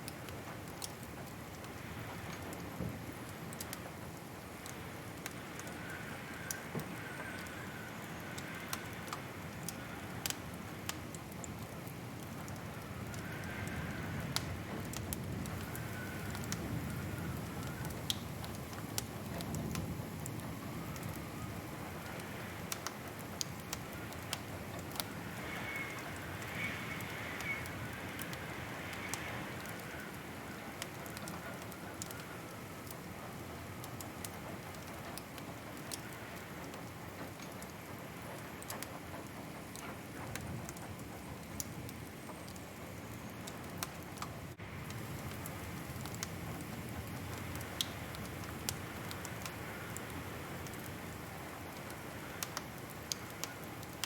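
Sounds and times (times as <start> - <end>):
low rush of flames: 0.0 - 54.0
wood fire crackling and popping: 0.0 - 54.0.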